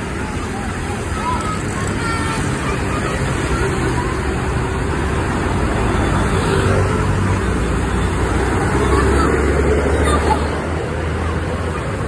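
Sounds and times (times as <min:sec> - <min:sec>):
bus engine rumbling: 0:00.0 - 0:12.0
road traffic: 0:00.0 - 0:12.0.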